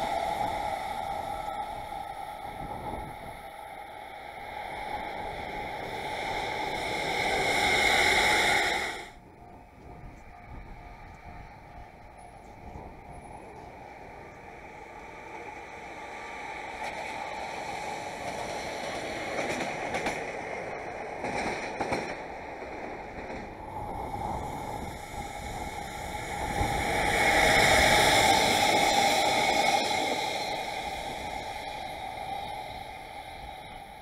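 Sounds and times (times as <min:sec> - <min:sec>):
rail yard noise: 0:00.0 - 0:34.0
train wheels on rails: 0:00.0 - 0:34.0.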